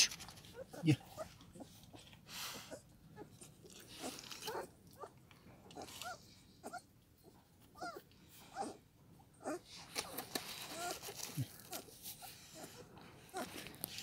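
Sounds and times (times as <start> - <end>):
puppies squeaking and whimpering: 0.0 - 13.8
soft rustle: 0.0 - 14.0.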